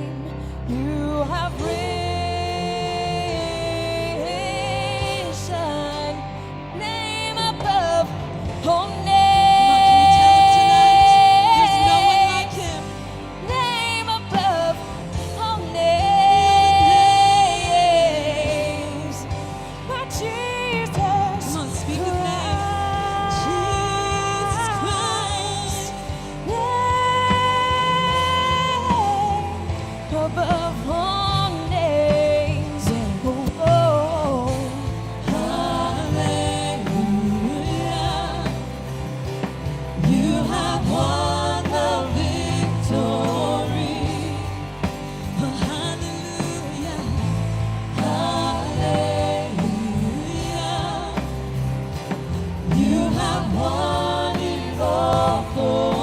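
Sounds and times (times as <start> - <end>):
band playing worship music: 0.0 - 56.0
lead voice singing: 0.0 - 56.0
steady bass line: 0.0 - 56.0.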